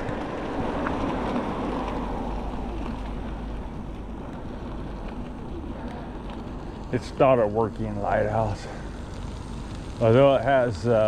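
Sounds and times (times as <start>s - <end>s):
low rumble: 0.0s - 11.0s
wind rushing past microphone: 0.0s - 11.0s.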